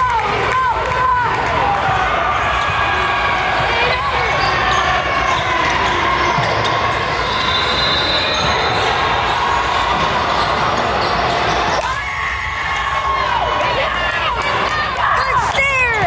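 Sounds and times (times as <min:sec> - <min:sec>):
chatter of people in gym: 0:00.0 - 0:16.0.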